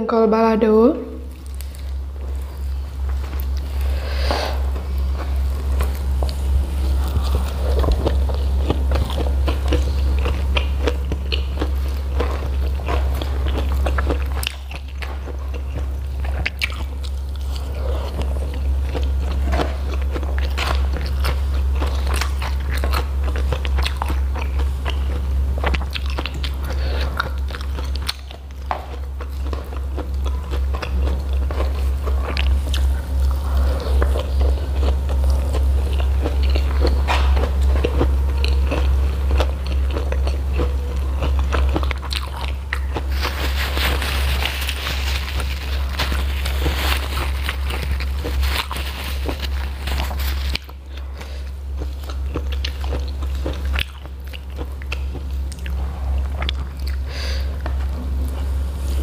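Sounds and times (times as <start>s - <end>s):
steady low hum: 0.0s - 59.0s
chewing and crunching food: 1.2s - 59.0s.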